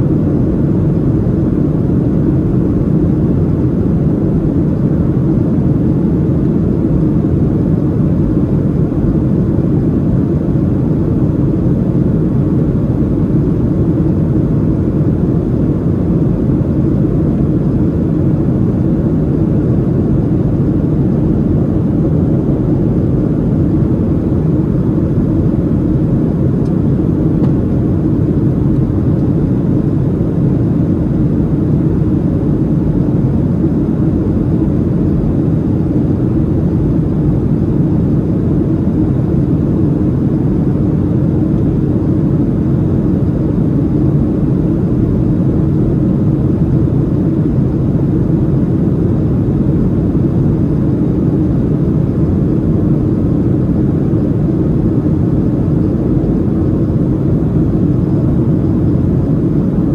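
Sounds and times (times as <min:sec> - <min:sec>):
jet engines humming: 0:00.0 - 0:59.9.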